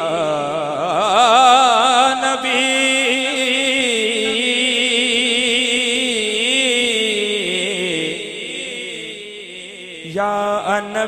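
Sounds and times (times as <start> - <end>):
man singing wavering vowel: 0.0 - 11.0.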